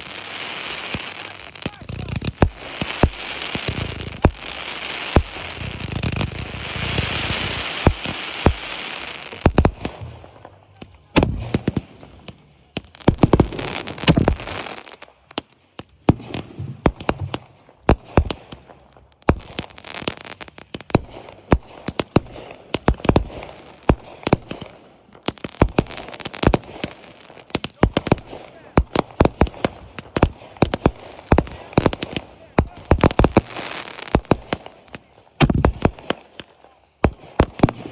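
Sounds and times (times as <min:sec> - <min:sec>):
fireworks bangs and booms: 0:00.0 - 0:37.9
fireworks crackling: 0:00.0 - 0:37.9.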